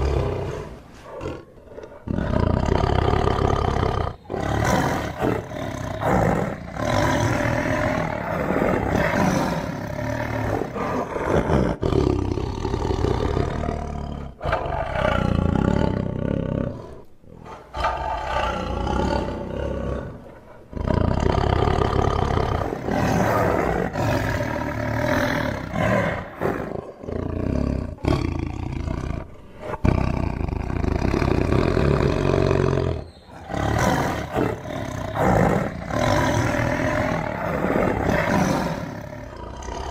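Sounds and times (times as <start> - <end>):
tiger roaring and growling: 0.0 - 39.9.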